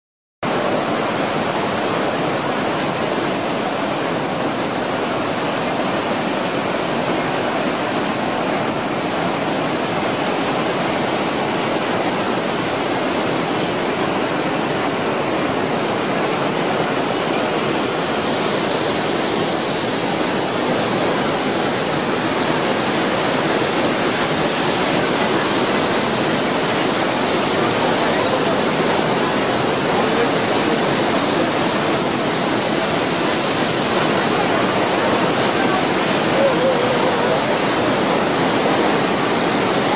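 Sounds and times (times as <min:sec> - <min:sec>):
waterfall roaring: 0:00.4 - 0:39.9.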